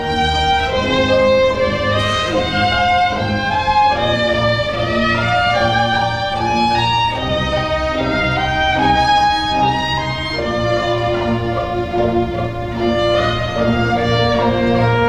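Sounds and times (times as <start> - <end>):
lower strings bass notes: 0.0 - 15.0
violins playing melody: 0.0 - 15.0.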